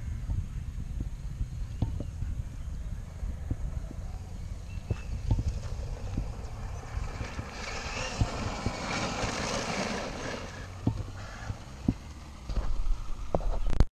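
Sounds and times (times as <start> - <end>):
wind rumbling on microphone: 0.0 - 13.9.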